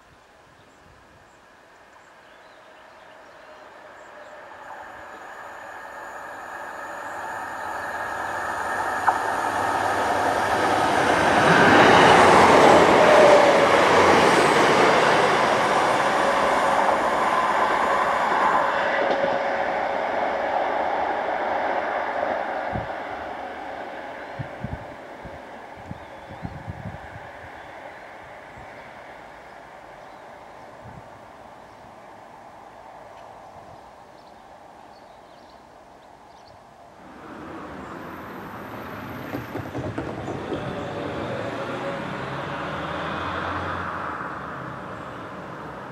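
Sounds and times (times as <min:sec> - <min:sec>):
wheel and rail noise: 0:02.0 - 0:34.9, 0:36.8 - 0:45.9
train diesel engines droning: 0:02.4 - 0:33.0, 0:36.9 - 0:45.9.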